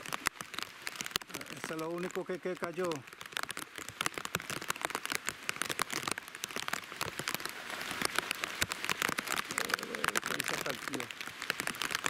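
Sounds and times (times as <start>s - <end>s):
heavy rain drops hitting: 0.0s - 12.0s
steady rain hiss: 0.0s - 12.0s.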